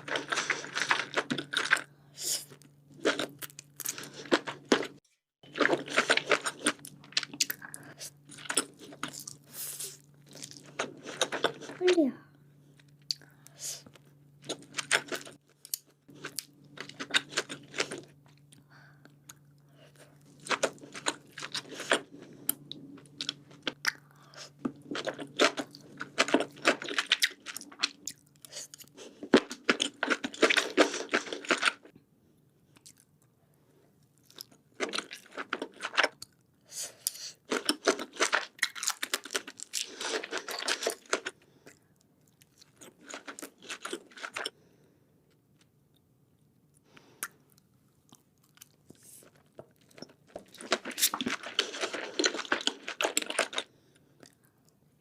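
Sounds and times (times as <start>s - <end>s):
person chewing food: 0.0s - 11.8s, 12.7s - 32.0s, 32.7s - 33.3s, 34.0s - 54.8s.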